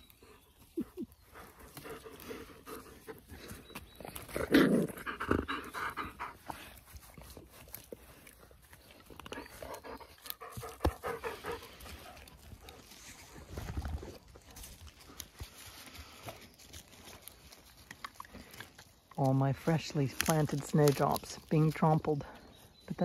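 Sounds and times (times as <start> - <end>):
dogs panting: 0.0 - 19.0.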